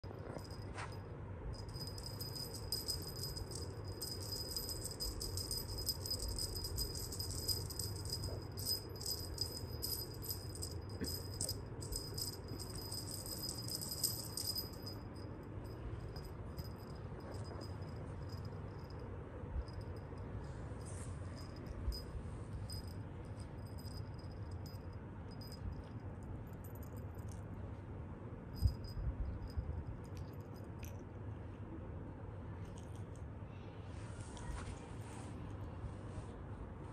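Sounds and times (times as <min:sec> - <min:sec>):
small bell jingling: 0:00.2 - 0:27.4, 0:28.5 - 0:31.1.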